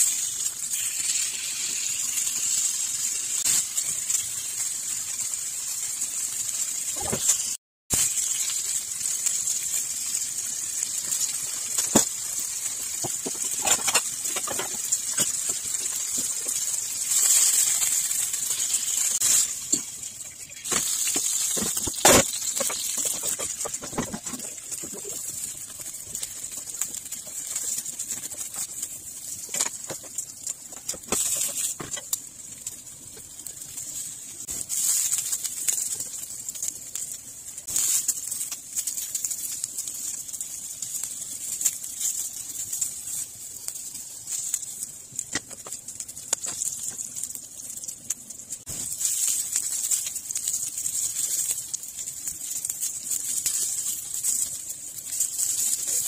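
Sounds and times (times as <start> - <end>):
eggplant sizzling in oil: 0.0 - 56.0.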